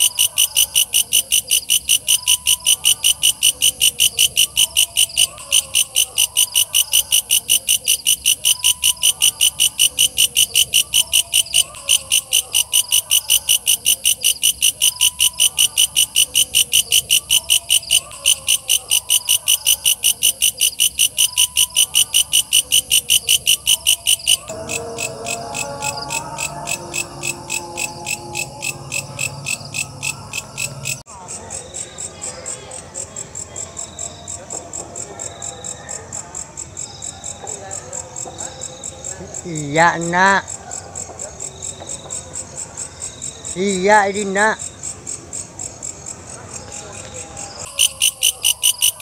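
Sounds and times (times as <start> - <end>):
cricket rasping chirp: 0.0 - 32.1, 35.2 - 49.0.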